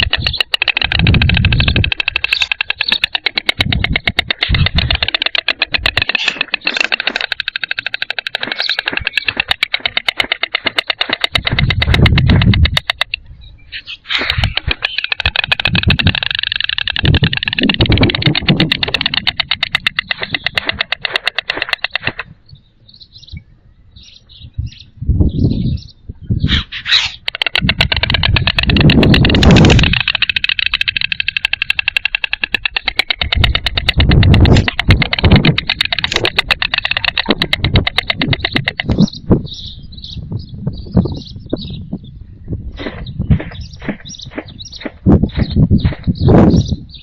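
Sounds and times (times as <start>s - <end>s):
storks bill-clattering: 0.0s - 22.3s, 26.5s - 39.2s, 42.8s - 46.7s
small birds chirping: 0.0s - 47.0s.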